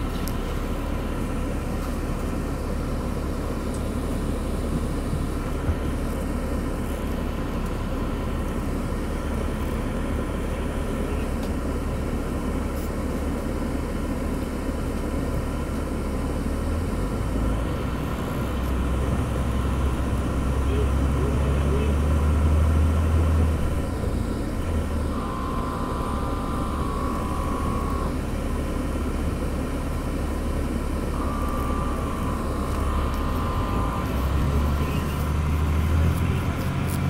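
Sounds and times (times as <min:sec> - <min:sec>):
diesel bus engine drone: 0:00.0 - 0:37.0.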